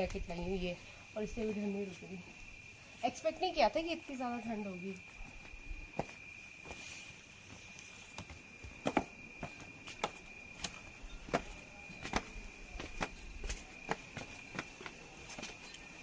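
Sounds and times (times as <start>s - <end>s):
high insect trill: 0.0s - 16.0s.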